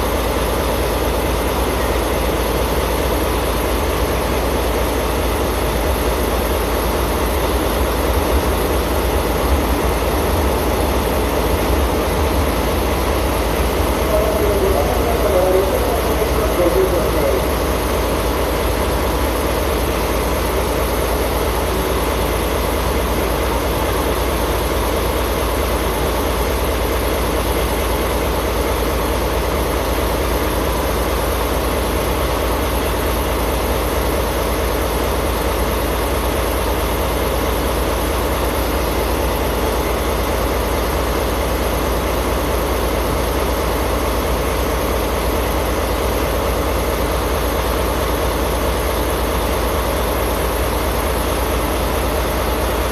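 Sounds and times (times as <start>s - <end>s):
diesel locomotive engine idling: 0.0s - 52.9s.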